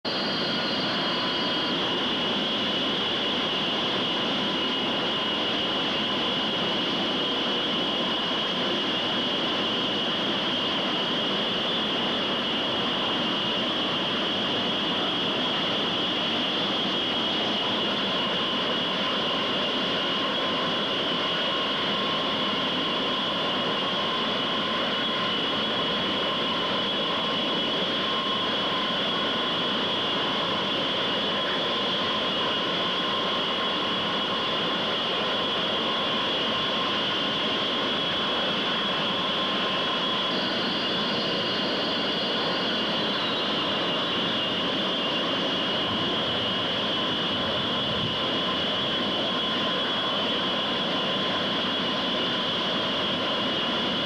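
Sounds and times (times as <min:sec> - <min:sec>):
high even whine: 0:00.0 - 0:54.0
jet aircraft flying past: 0:00.1 - 0:54.0.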